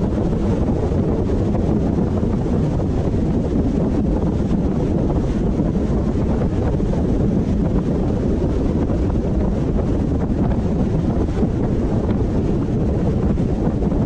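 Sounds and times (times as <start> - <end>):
tyre and wind noise: 0.0 - 14.0.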